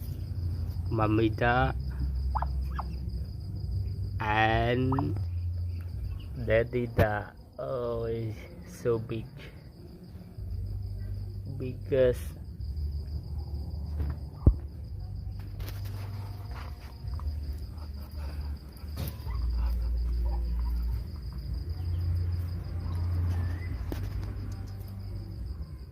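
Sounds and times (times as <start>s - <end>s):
low rumble: 0.0s - 7.0s, 9.8s - 25.8s
crickets chirring: 0.0s - 25.9s.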